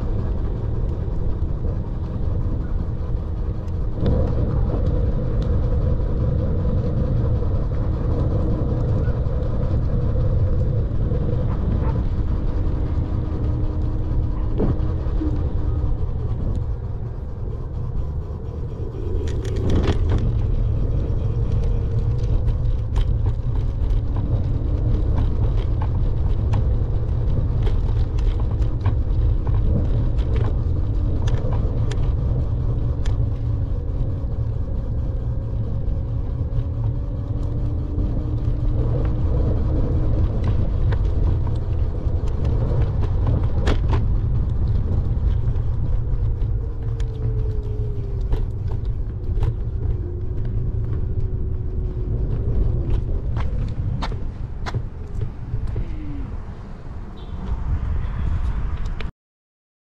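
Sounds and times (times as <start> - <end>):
faint wavering hum: 0.0 - 57.4
low rumble: 0.0 - 59.1.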